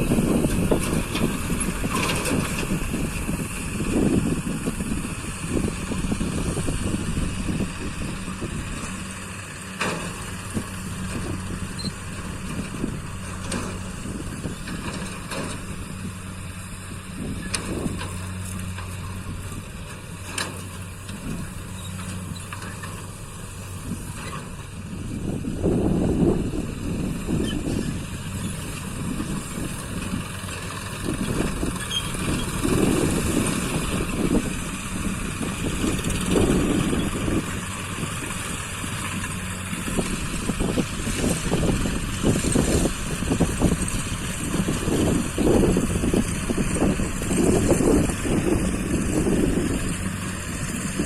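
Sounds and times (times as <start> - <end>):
vehicle engine running steadily: 0.0 - 51.0.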